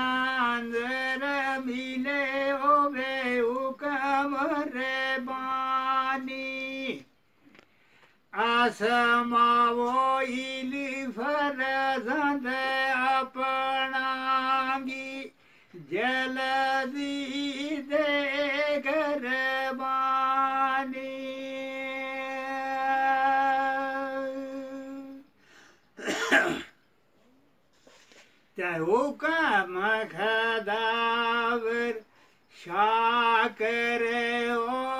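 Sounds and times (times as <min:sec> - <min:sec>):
man singing unaccompanied: 0:00.0 - 0:07.3, 0:08.3 - 0:25.4, 0:28.5 - 0:34.9.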